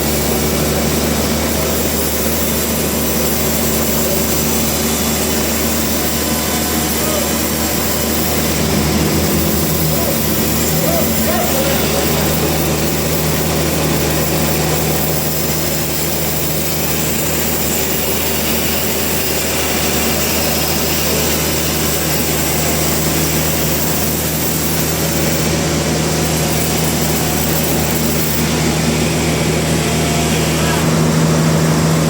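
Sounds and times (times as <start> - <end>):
sawmill machinery humming: 0.0 - 32.0.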